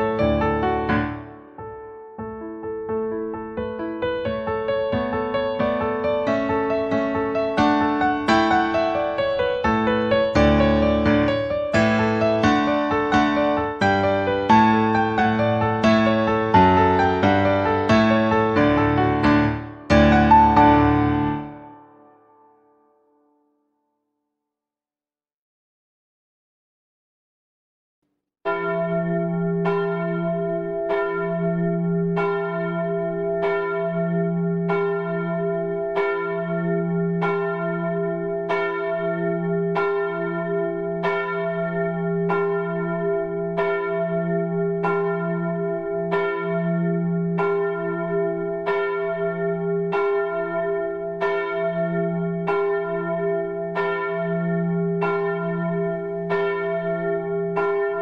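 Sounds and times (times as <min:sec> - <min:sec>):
church bell tolling: 0:04.9 - 0:22.1, 0:28.5 - 0:58.0.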